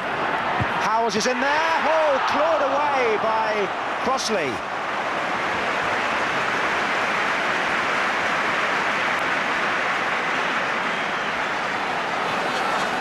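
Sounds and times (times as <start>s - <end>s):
stadium crowd roaring: 0.0s - 13.0s.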